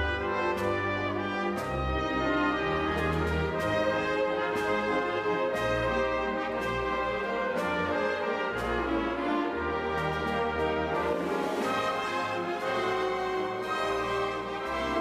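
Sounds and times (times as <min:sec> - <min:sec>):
orchestral music with brass: 0:00.0 - 0:15.0.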